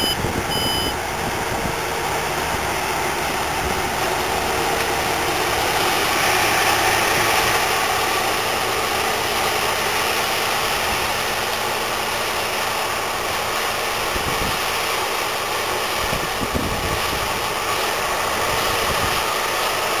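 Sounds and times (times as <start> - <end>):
combine harvester droning: 0.0 - 20.0.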